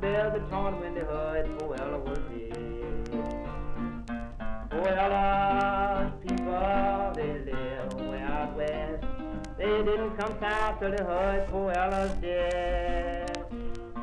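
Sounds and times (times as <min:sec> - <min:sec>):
plucked acoustic guitar: 0:00.0 - 0:14.0.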